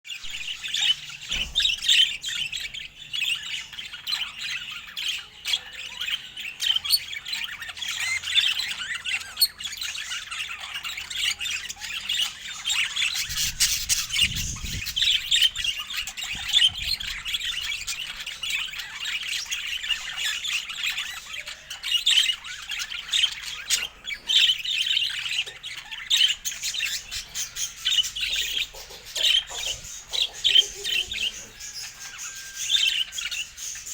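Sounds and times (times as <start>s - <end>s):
budgerigars chirping and chattering: 0.1s - 33.9s.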